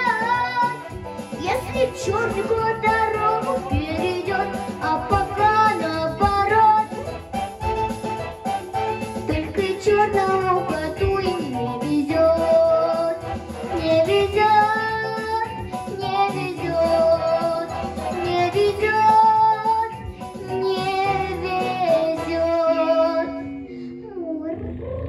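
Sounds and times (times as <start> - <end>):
girl singing into microphone: 0.0 - 7.1, 9.3 - 25.0
pop backing track with guitar: 0.0 - 23.9.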